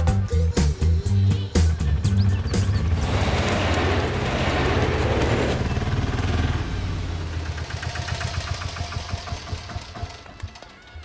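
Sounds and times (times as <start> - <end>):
auto-rickshaw engine running: 1.2 - 11.0.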